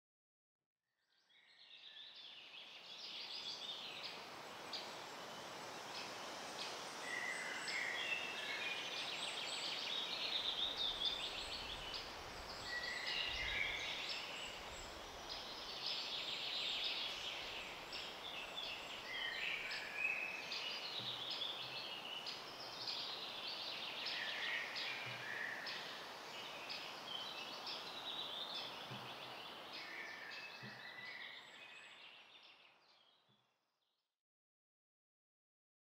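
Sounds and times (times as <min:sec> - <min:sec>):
songbirds chirping: 0:01.3 - 0:33.6
steady background hiss: 0:01.9 - 0:32.6.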